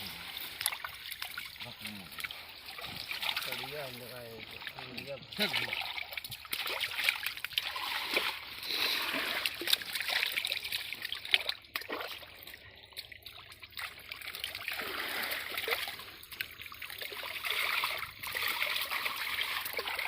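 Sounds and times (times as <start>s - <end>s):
river water splashing: 0.0s - 20.0s.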